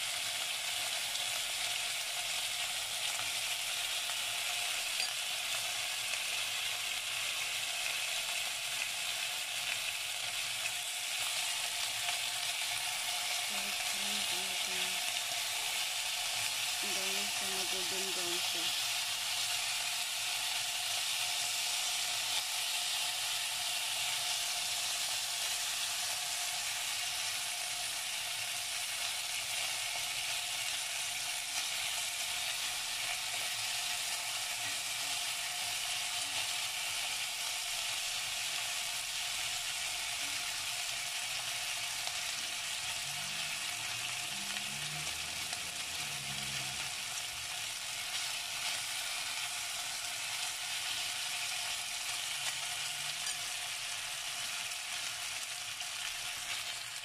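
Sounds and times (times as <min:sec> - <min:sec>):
chicken frying in hot oil: 0:00.0 - 0:57.0.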